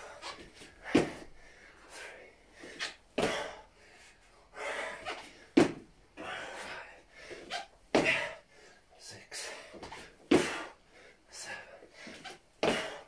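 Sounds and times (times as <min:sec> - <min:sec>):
man breathing heavily: 0:00.0 - 0:13.0.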